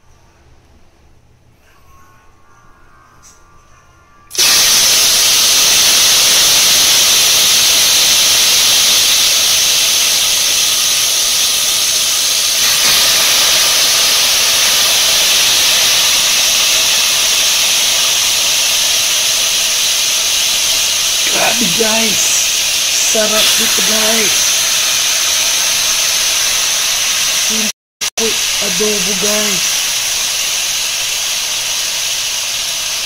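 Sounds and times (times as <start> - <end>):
chicken sizzling in hot pan: 4.3 - 33.0.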